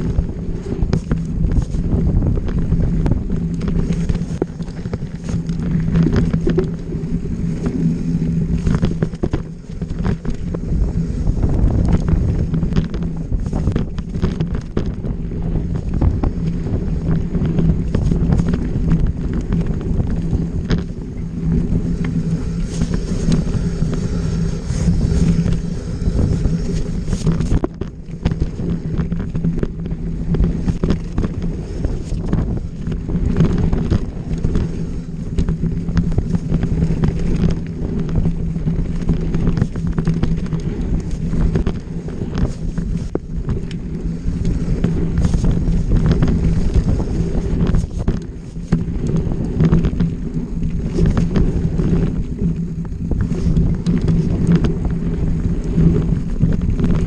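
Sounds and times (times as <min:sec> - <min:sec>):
dirt bike engine running: 0:00.0 - 0:57.0
wind buffeting microphone: 0:00.0 - 0:57.0.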